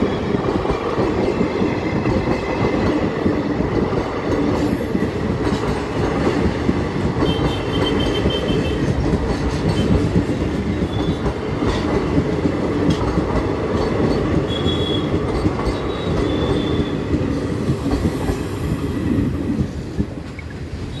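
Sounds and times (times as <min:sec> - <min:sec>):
train coaches rumbling past: 0:00.0 - 0:21.0
wheels clicking over rail joints: 0:00.3 - 0:18.5.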